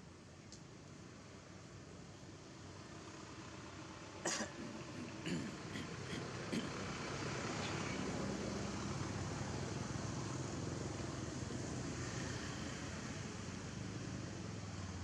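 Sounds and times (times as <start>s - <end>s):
vehicle engine humming: 2.4s - 15.0s.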